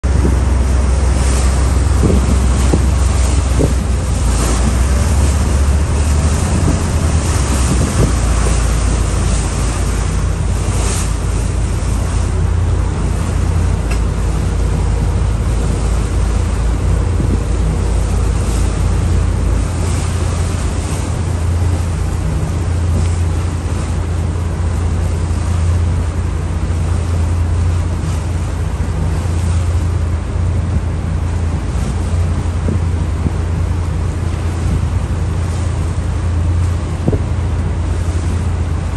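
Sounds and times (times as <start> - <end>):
low rumble of boats: 0.0 - 38.9
water rushing along hulls: 0.0 - 38.9
wind buffeting microphone: 0.0 - 38.9.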